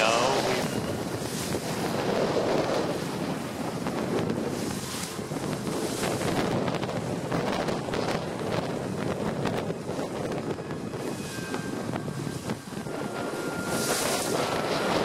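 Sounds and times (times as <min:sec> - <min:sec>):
water rushing past hull: 0:00.0 - 0:15.0
wind buffeting microphone: 0:00.0 - 0:15.0.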